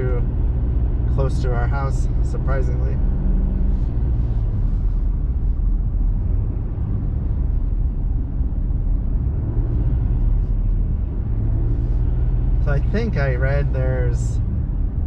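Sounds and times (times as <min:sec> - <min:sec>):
vehicle cabin road and engine rumble: 0:00.0 - 0:15.0.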